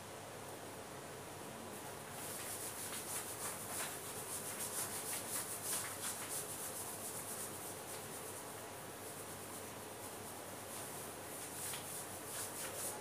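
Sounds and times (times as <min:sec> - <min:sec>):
whiteboard being wiped: 0:02.2 - 0:13.0.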